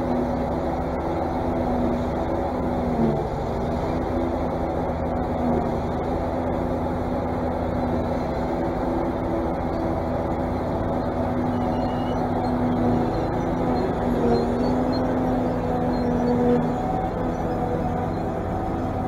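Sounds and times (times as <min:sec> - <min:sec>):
harvester machine drone: 0:00.0 - 0:19.0.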